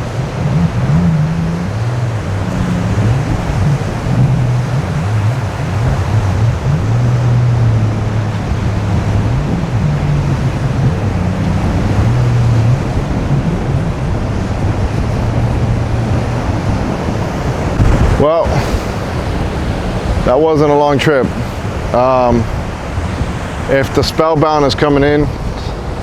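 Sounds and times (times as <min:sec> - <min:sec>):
low hum: 0:00.0 - 0:23.7
heavy surf: 0:00.0 - 0:26.0
strong wind on microphone: 0:00.0 - 0:26.0.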